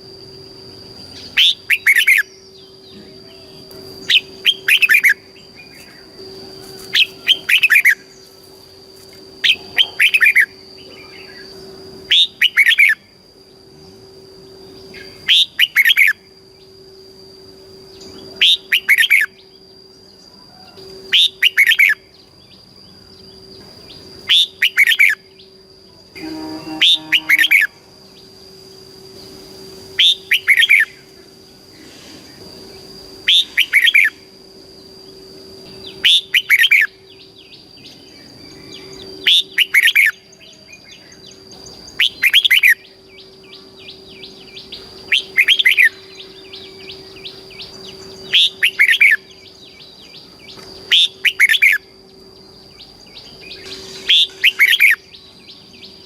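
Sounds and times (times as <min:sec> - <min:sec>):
steady high whine: 0:00.0 - 0:56.0
bird singing whistled notes: 0:00.2 - 0:08.3, 0:09.4 - 0:13.2, 0:14.7 - 0:16.8, 0:17.6 - 0:25.6, 0:26.2 - 0:31.2, 0:33.2 - 0:34.2, 0:35.0 - 0:56.0.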